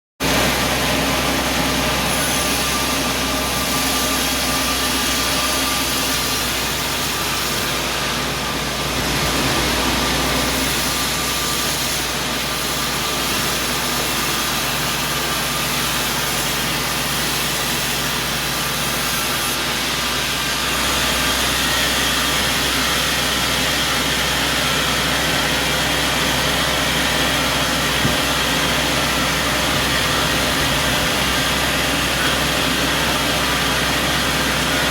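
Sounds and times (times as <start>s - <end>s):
sawmill machinery drone: 0.2s - 34.9s.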